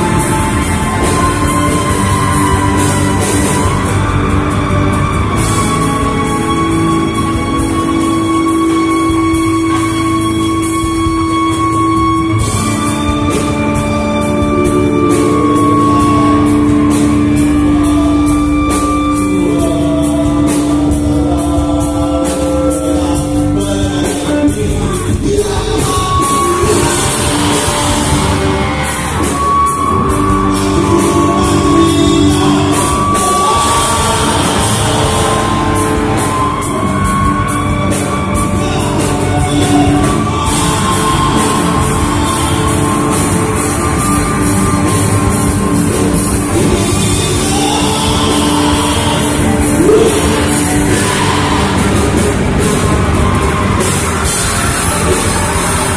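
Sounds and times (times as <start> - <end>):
drums: 0.0 - 55.9
electric guitar: 0.0 - 55.9
person singing: 0.0 - 55.9.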